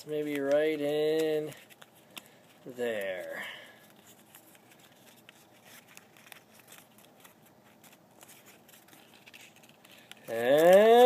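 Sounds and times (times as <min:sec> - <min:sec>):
paper crinkling clicks: 0:00.1 - 0:11.0.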